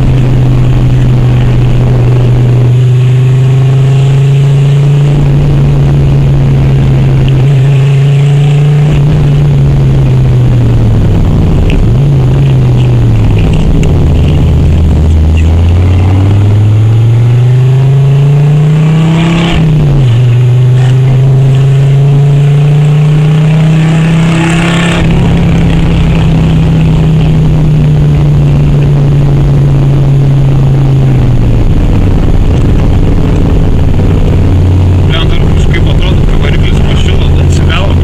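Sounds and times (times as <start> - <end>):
loud car engine revving: 0.0 - 38.0.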